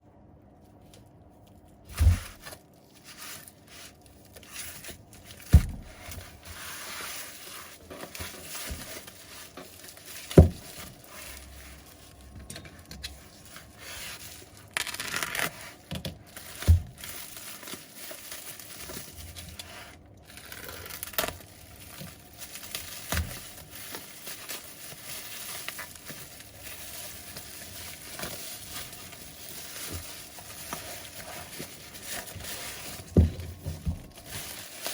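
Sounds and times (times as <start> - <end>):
scraping and crinkling: 0.6 - 34.9.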